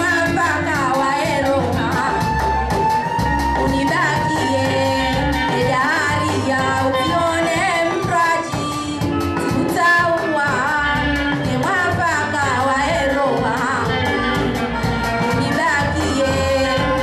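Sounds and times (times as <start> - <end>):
amplified band music with beat: 0.0 - 17.0
woman singing into microphone: 0.0 - 17.0.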